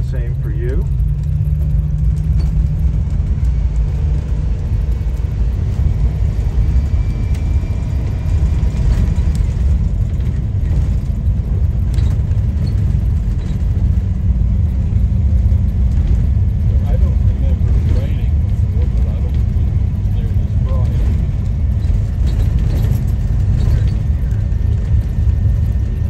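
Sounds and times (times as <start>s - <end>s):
bus road noise rumble: 0.0s - 26.0s
engine hum: 0.0s - 26.0s.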